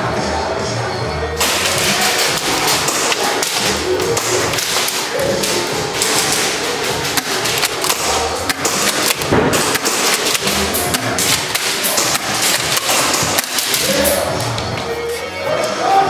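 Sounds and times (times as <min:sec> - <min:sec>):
sharp clicks and knocks: 0:01.4 - 0:14.8.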